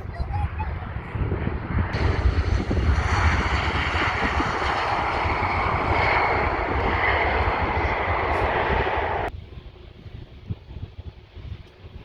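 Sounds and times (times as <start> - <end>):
airliner engines running: 0.0 - 12.0.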